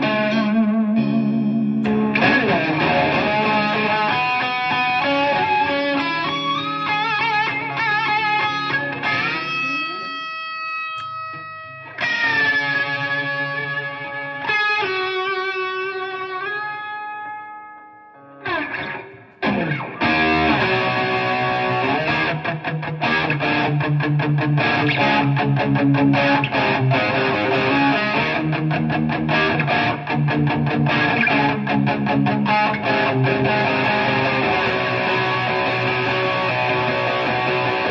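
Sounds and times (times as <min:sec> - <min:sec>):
electric guitar chords ringing: 0:00.0 - 0:37.9
electric guitar vibrato notes: 0:00.0 - 0:37.9.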